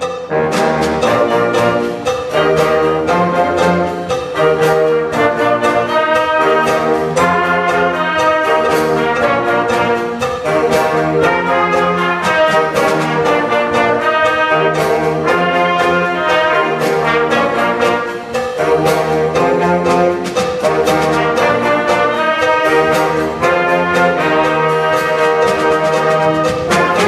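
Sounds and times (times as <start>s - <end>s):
percussion strokes: 0.0s - 27.0s
brass and woodwind chords: 0.3s - 27.0s.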